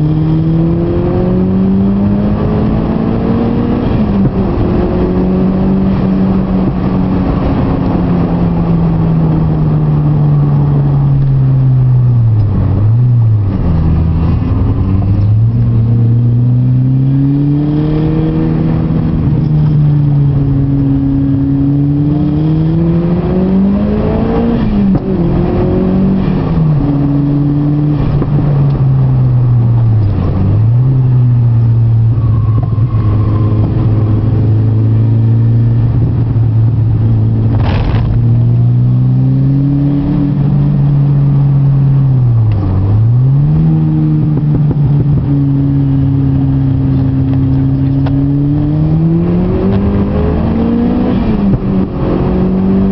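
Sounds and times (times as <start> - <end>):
car engine revving through gears: 0.0 - 52.9.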